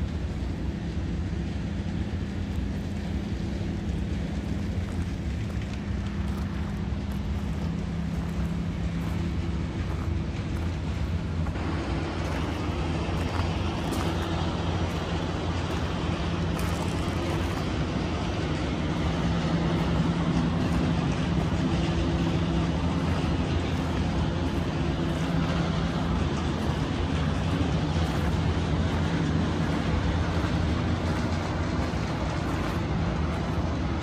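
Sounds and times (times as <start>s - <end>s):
diesel locomotive engine droning: 0.0s - 34.0s.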